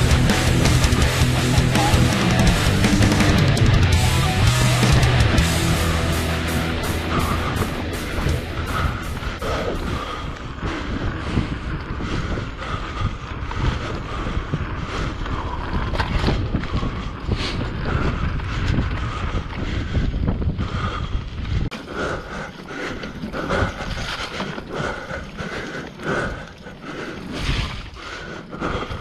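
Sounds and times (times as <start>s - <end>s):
bike tyres on sand: 0.0s - 29.0s
wind buffeting microphone: 0.0s - 29.0s.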